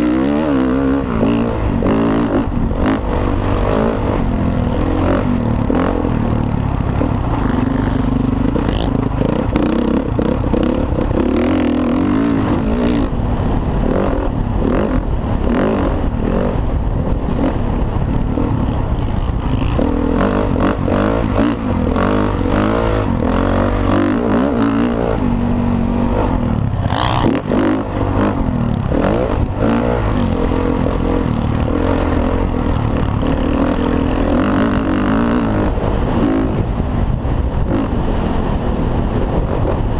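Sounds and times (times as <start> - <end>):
motorbike engine revving: 0.0 - 39.9
bike rattling over rough ground: 1.2 - 39.9.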